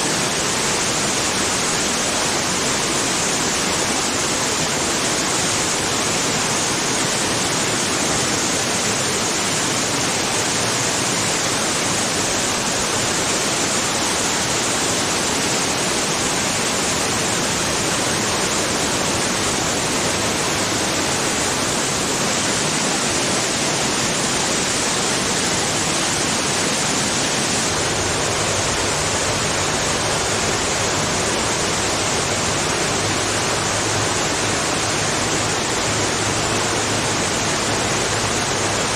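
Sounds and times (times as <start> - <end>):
waterfall pouring into pool: 0.0 - 38.9.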